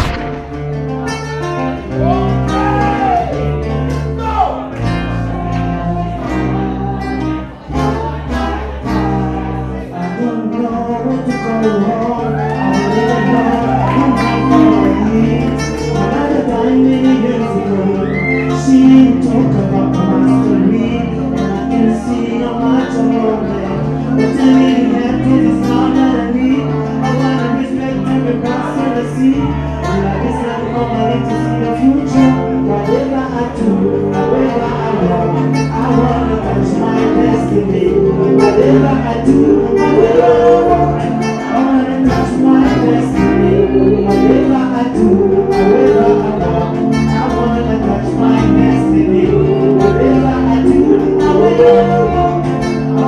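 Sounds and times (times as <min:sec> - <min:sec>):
song with bass beat and guitar: 0:00.0 - 0:53.0
person singing: 0:04.8 - 0:53.0.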